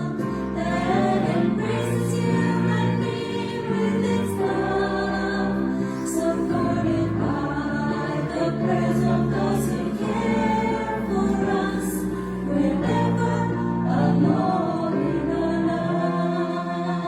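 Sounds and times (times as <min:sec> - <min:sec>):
choir singing held chords: 0:00.0 - 0:17.0.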